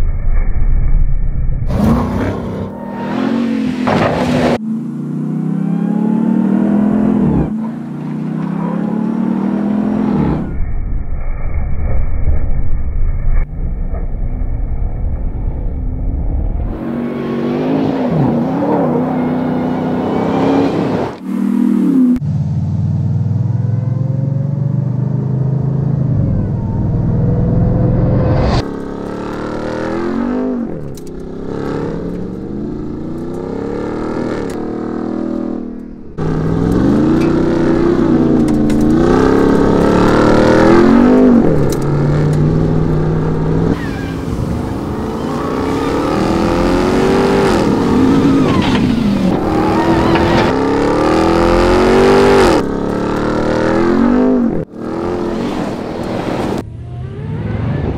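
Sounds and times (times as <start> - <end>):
car engine revving: 1.7 - 10.5, 15.2 - 57.9.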